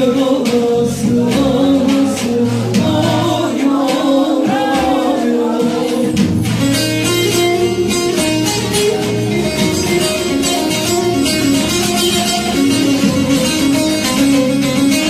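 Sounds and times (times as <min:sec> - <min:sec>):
person singing folk song: 0:00.0 - 0:09.5, 0:11.7 - 0:15.0
bass line: 0:00.0 - 0:15.0
plucked strings: 0:00.0 - 0:15.0.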